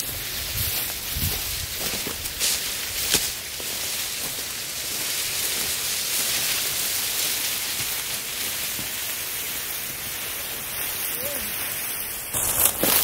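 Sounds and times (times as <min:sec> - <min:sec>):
branches dragged over dry grass: 0:00.0 - 0:13.0.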